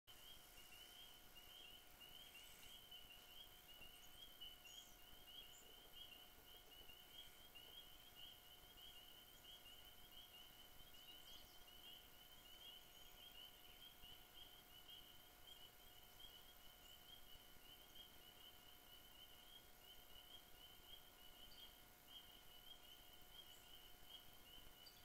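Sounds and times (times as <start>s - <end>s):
chorus of high chirps: 0.1s - 25.0s
thin steady whine: 0.1s - 25.0s.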